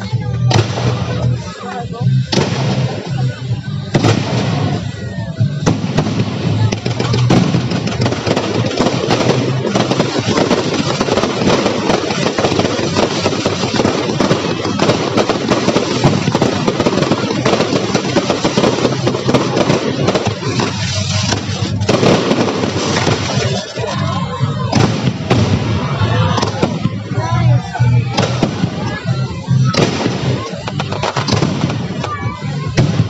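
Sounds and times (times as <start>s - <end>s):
faint voices: 0.0s - 33.0s
fireworks bangs and crackling: 0.0s - 33.0s.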